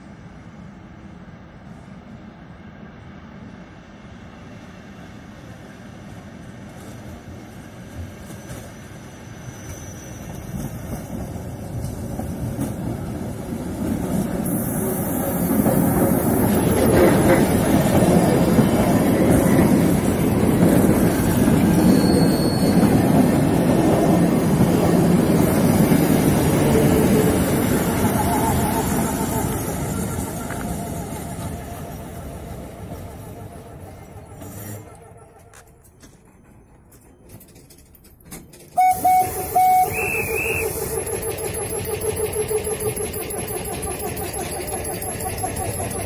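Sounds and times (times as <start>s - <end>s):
electric train passing: 0.0s - 37.9s, 38.7s - 46.0s
train wheels rumbling on rails: 4.4s - 46.0s.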